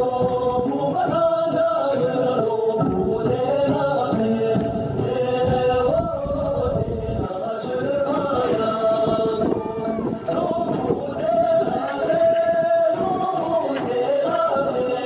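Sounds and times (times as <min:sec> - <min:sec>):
men singing in chant-like notes: 0:00.0 - 0:15.0.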